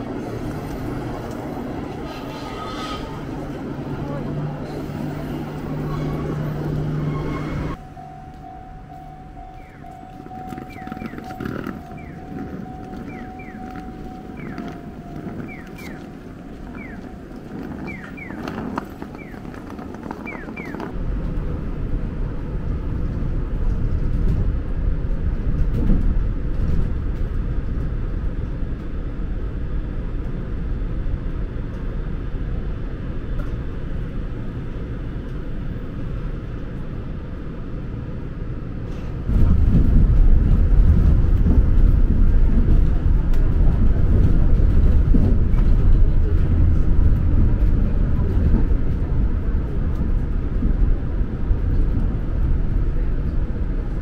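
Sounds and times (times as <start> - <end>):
monorail car cabin rumble: 0.0 - 54.0.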